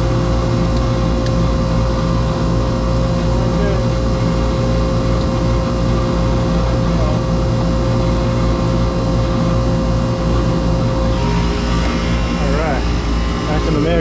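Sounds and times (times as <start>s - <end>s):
mechanical drone with low hum: 0.0s - 14.0s.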